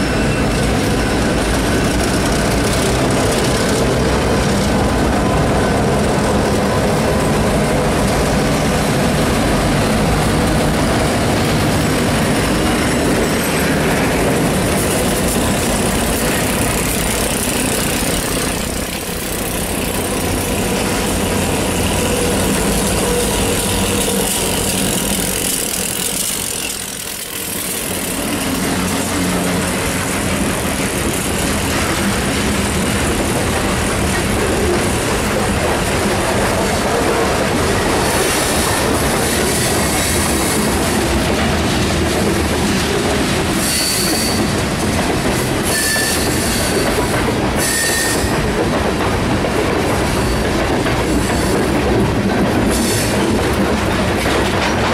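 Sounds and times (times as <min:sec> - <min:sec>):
diesel locomotives passing: 0:00.0 - 0:54.9.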